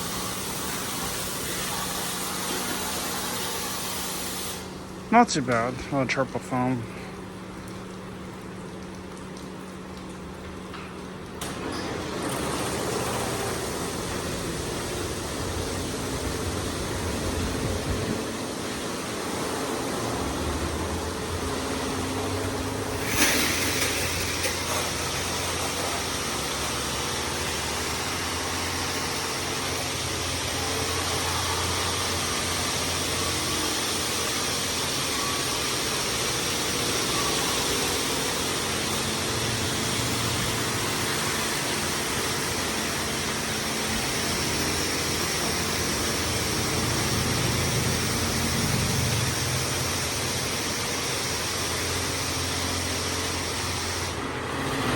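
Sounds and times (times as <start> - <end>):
car wash spray hissing: 0.0 - 6.8, 12.1 - 54.9
machinery hum: 0.0 - 7.6, 11.5 - 54.9.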